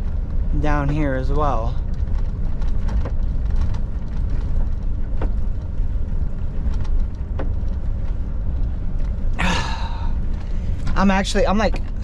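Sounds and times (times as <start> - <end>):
truck engine rumble from cab: 0.0 - 12.0.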